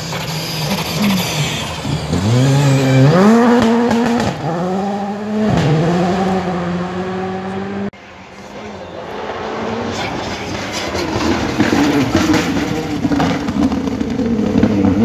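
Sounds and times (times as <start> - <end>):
rally car engine accelerating: 0.0 - 8.0, 8.6 - 15.0.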